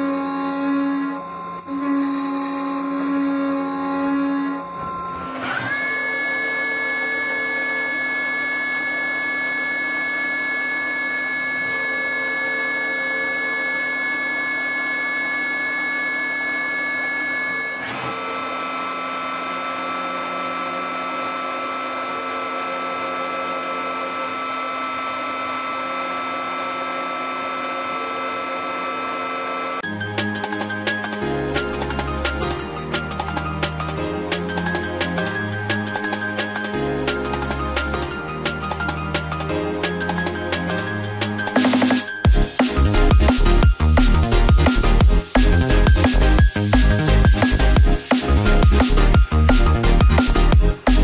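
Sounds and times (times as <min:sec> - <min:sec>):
machine milling whine: 0:00.0 - 0:51.0.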